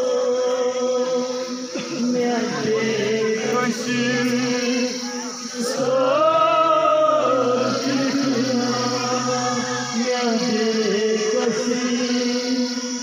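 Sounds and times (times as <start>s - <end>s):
man singing a chanted lament: 0.0s - 13.0s.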